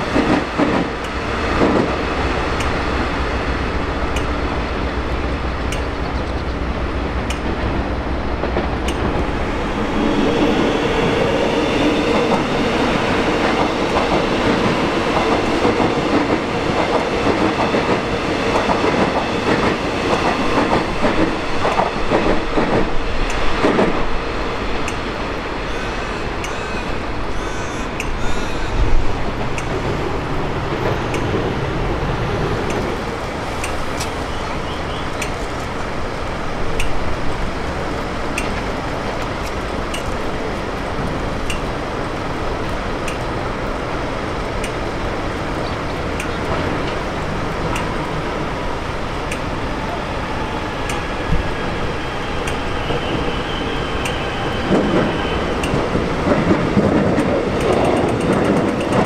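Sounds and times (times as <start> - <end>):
rail vehicle rumbling: 0.0 - 59.0.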